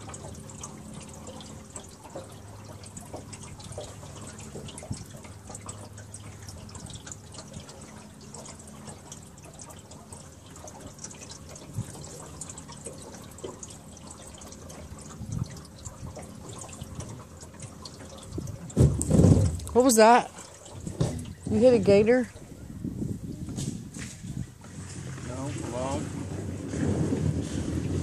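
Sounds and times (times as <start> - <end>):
water dripping and trickling: 0.0 - 28.0.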